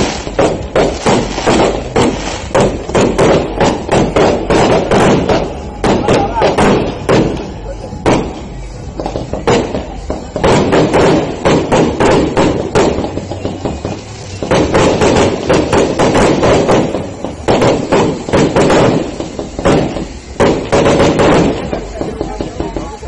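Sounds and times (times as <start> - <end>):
fireworks exploding with bangs: 0.0 - 23.0.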